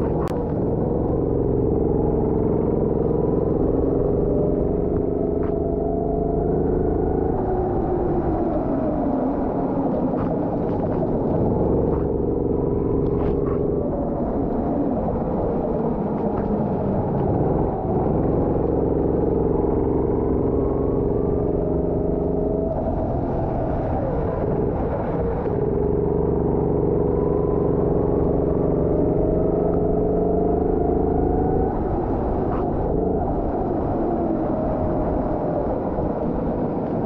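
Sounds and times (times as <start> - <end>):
go-kart engine running: 0.0 - 37.0.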